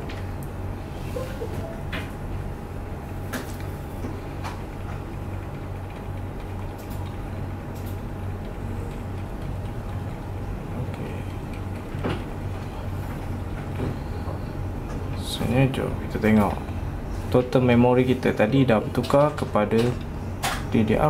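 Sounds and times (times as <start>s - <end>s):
computer humming: 0.0s - 21.0s.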